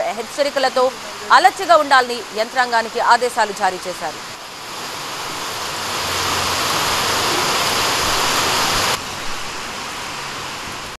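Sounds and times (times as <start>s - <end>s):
heavy rain: 0.0s - 11.0s
rough sea: 0.0s - 11.0s.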